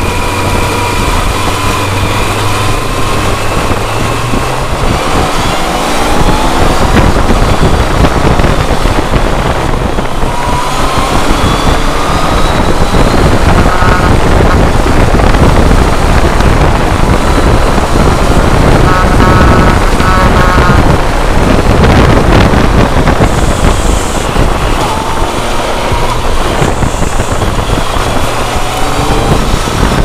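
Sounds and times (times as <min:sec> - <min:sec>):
motorcycle engine accelerating: 0:00.0 - 0:30.0
wind rush on microphone: 0:00.0 - 0:30.0.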